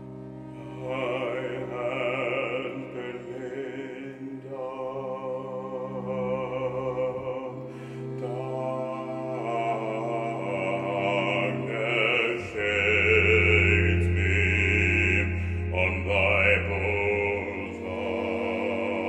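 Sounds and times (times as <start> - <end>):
cello and violin: 0.0 - 19.0
baritone singing with vibrato: 0.1 - 19.0.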